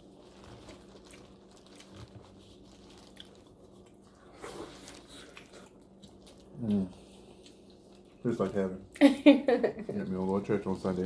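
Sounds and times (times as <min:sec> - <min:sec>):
soft chewing: 0:00.0 - 0:09.0
faint steady hum: 0:00.0 - 0:11.0.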